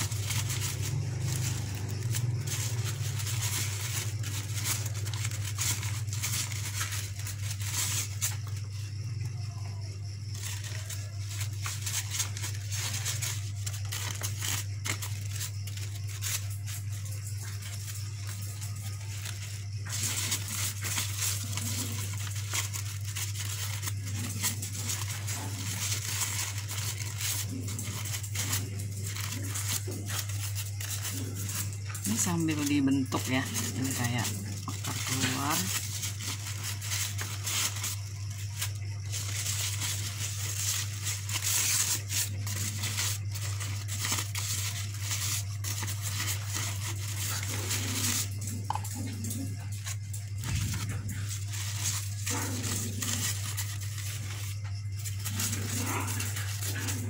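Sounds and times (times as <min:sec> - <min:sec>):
crepe paper crinkling: 0:00.0 - 0:57.0.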